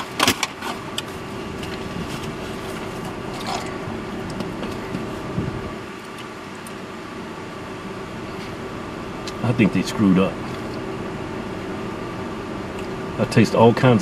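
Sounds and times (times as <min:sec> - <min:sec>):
car interior hum: 0:00.0 - 0:14.0.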